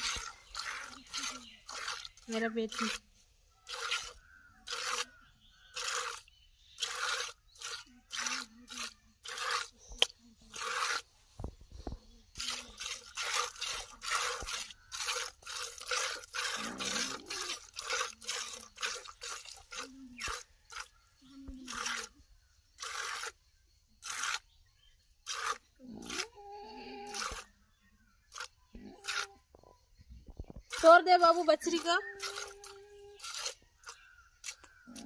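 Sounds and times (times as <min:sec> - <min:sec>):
milk squirting into plastic bucket: 0:00.0 - 0:22.2, 0:22.8 - 0:23.4, 0:24.0 - 0:24.5, 0:25.2 - 0:26.4, 0:27.0 - 0:27.5, 0:28.2 - 0:29.3, 0:30.3 - 0:35.0.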